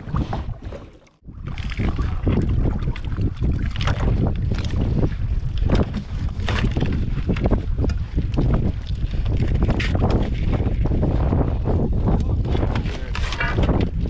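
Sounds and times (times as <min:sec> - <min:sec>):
water splashing against boat: 0:00.0 - 0:14.0
wind buffeting microphone: 0:00.0 - 0:14.0.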